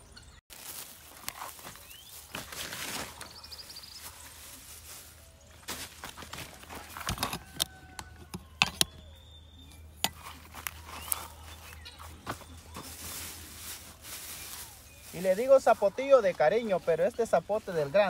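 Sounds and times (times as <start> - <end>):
hands scratching dry soil: 0.5 - 18.0.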